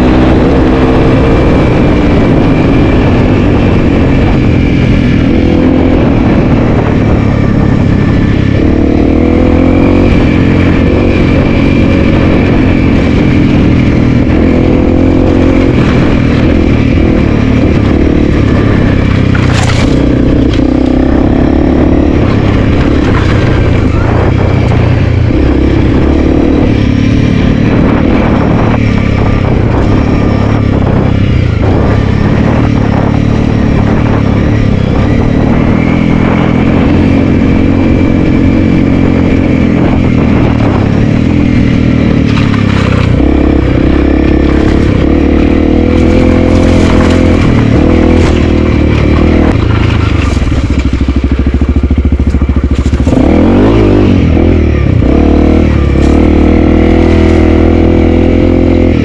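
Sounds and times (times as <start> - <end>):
motorcycle engine revving: 0.0 - 59.0
clatter and scrapes on trail: 7.4 - 59.0.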